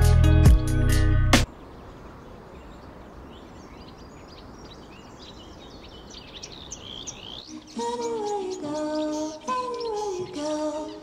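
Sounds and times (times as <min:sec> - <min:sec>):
steady outdoor hiss: 0:00.0 - 0:11.0
birds chirping: 0:01.4 - 0:11.0.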